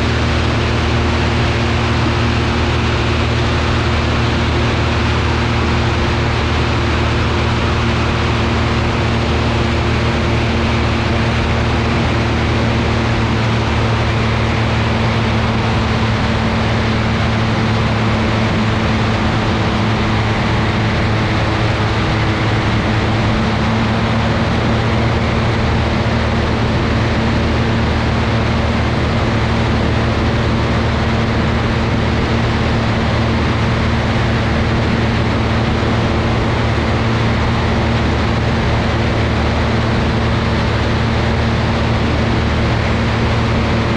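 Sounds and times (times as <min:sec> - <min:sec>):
piston engines droning: 0:00.0 - 0:43.9.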